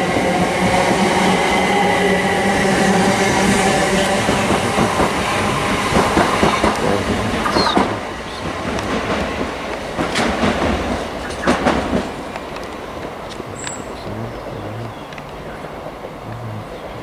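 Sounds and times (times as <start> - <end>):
train wheels clickety-clack: 0.0 - 14.2.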